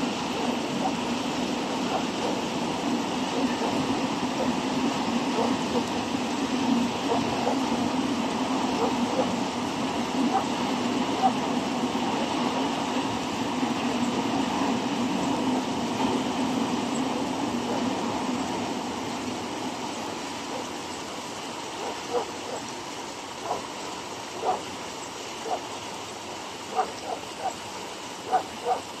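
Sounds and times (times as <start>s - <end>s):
freight train rumbling over rails: 0.0s - 29.0s.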